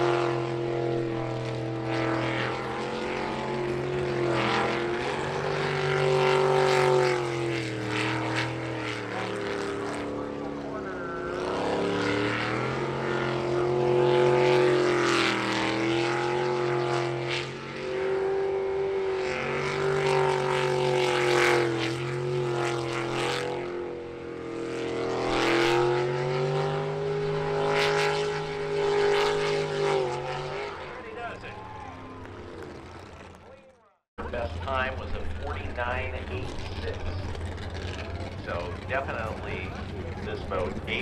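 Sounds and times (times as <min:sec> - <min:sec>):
boat engine running hard: 0:00.0 - 0:41.0.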